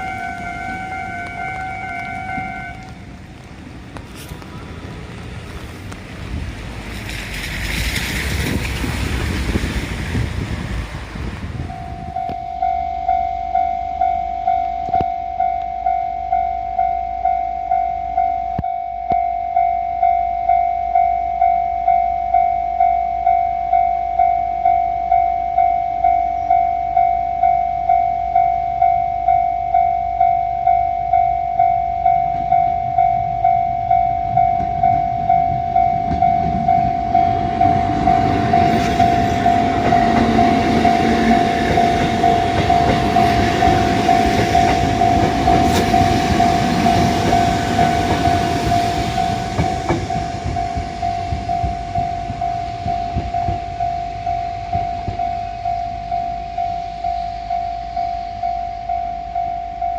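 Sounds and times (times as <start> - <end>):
level-crossing alarm bell ringing: 0.0 - 2.3, 11.6 - 59.9
electric train passing: 0.0 - 59.9.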